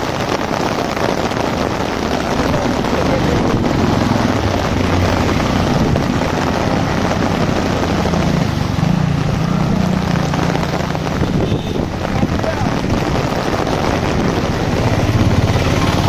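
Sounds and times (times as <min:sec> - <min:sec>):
heavy rain on an umbrella: 0:00.0 - 0:16.0.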